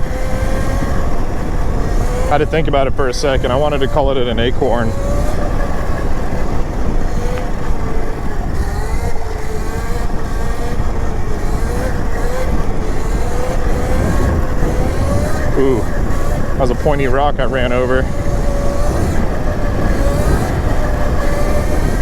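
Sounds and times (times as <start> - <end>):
electric motor whining: 0.0 - 22.0
heavy low rumble: 0.0 - 22.0.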